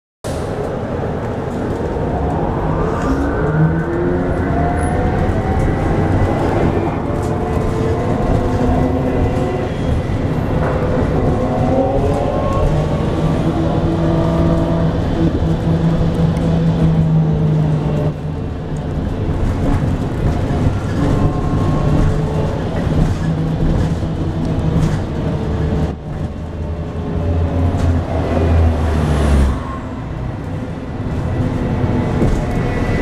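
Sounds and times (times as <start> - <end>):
road rumble: 0.2 - 33.0.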